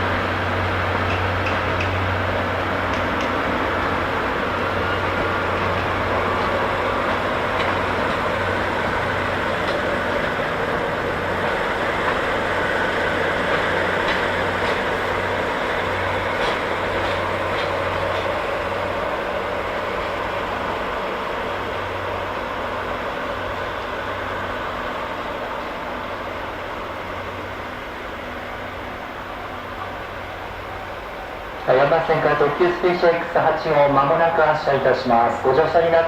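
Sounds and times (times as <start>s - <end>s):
standing train humming: 0.0s - 36.0s.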